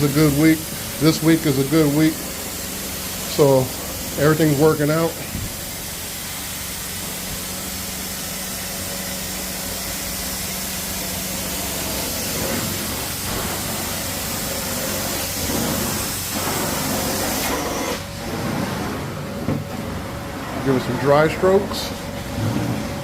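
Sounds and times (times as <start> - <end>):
water spraying and sucking hiss: 0.0 - 19.4.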